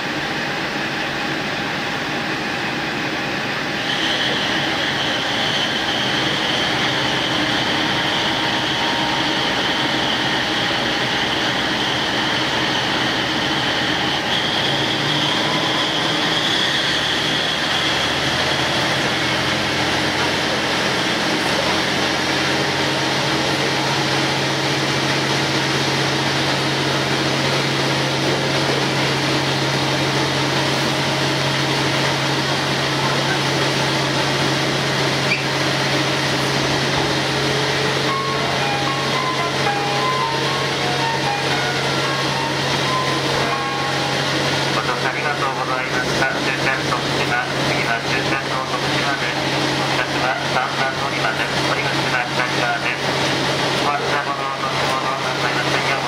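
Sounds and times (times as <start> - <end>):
high whine: 0.0 - 56.0
low diesel engine drone: 0.0 - 56.0
railcar cabin running din: 0.0 - 56.0.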